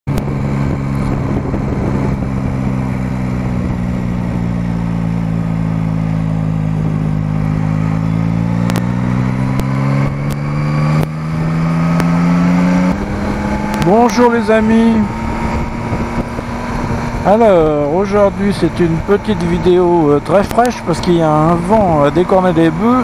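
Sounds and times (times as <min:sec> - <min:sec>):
wind rushing over microphone: 0:00.1 - 0:05.7, 0:08.3 - 0:23.0
motorcycle engine running: 0:00.1 - 0:23.0.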